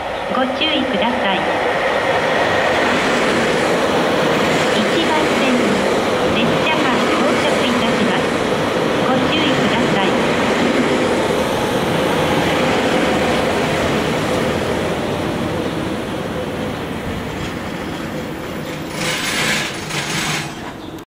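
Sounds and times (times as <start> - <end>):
electric train arriving: 0.0 - 21.0.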